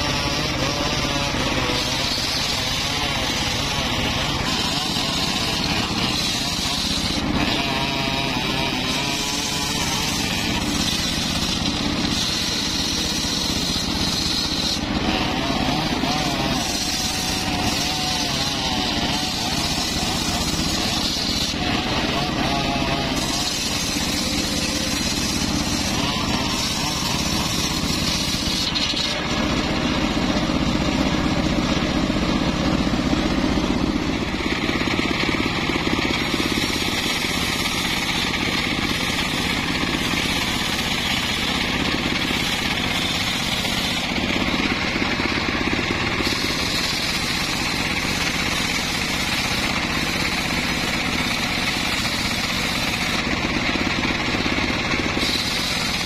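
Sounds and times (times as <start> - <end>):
circular saw blade ripping log: 0.0 - 56.0.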